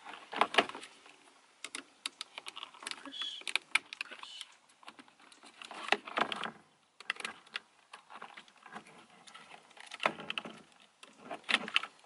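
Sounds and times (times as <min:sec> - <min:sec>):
plastic clicks and rattles: 0:01.6 - 0:12.0.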